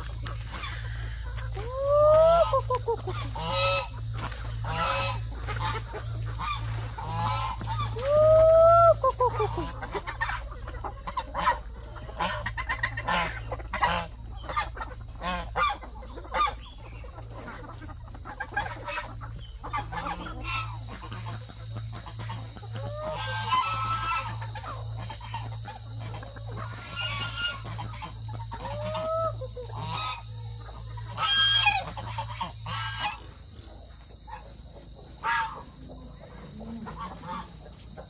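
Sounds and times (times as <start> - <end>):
poultry clucking: 0.0 - 38.0
steady high-pitched whine: 0.0 - 38.0.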